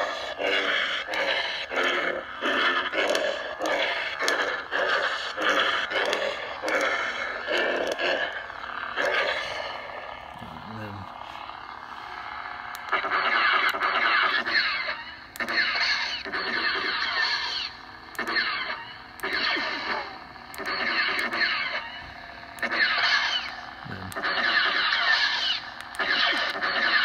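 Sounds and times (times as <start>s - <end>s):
crackling lightsaber hum: 0.0s - 27.0s.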